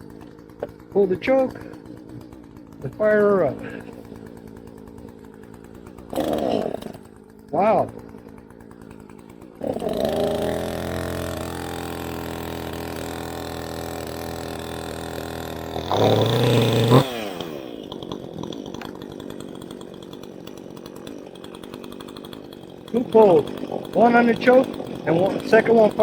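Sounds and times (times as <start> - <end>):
chainsaw revving: 0.0 - 26.0
chainsaw starting and running: 0.0 - 26.0.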